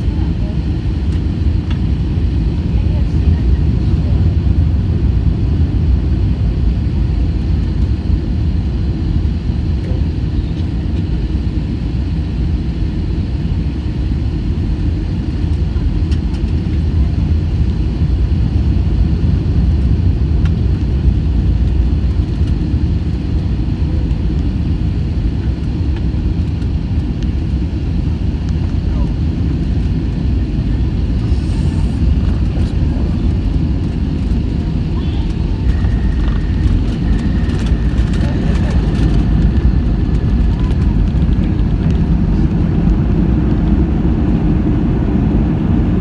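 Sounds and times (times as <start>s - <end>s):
jet engine rumble in cabin: 0.0s - 46.0s.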